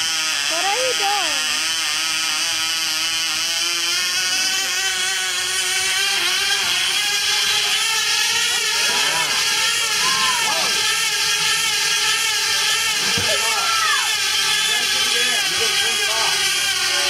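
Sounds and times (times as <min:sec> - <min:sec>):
model engine passing by: 0:00.0 - 0:17.0
model plane engines buzzing: 0:00.0 - 0:17.0.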